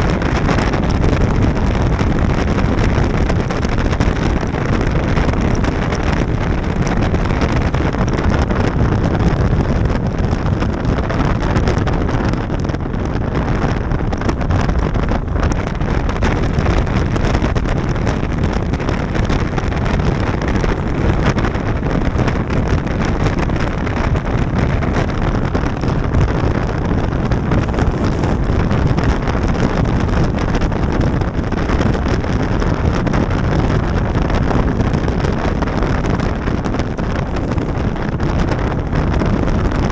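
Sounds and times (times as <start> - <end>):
road noise: 0.0 - 39.9
wind rushing over microphone: 0.0 - 39.9.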